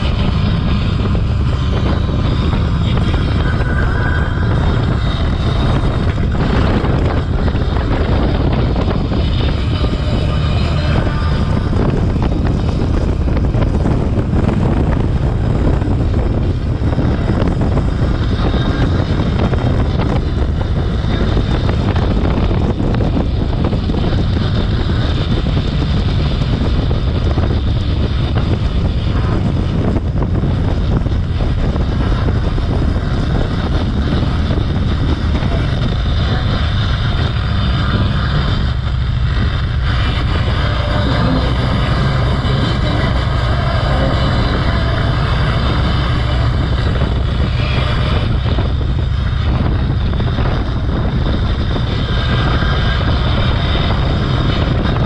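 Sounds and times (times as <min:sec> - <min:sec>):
car driving along road: 0:00.0 - 0:55.0.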